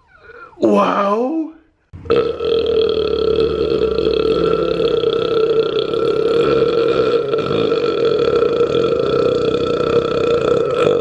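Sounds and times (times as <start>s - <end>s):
man belching: 2.0s - 11.0s.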